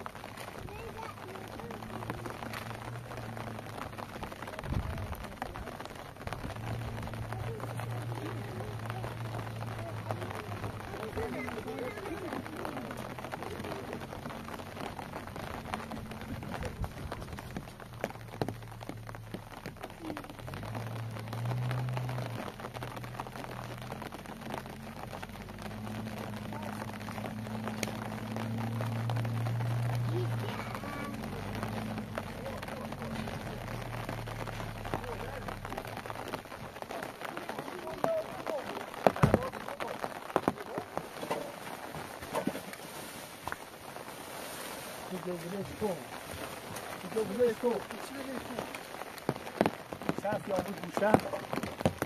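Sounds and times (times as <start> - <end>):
low engine hum: 0.0 - 52.0
rain falling: 0.0 - 52.0.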